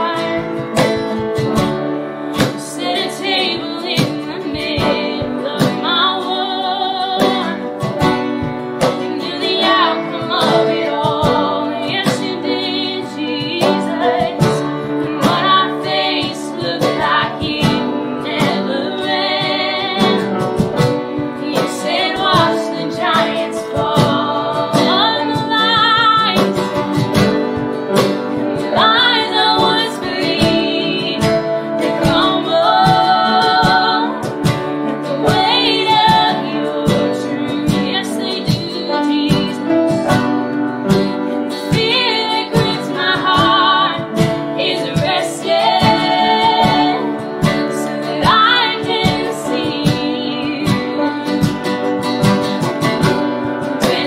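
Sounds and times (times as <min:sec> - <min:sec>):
woman singing: 0:00.0 - 0:01.7, 0:02.3 - 0:54.0
acoustic guitar: 0:00.0 - 0:54.0
cajon beat: 0:00.0 - 0:54.0
piano: 0:00.0 - 0:54.0.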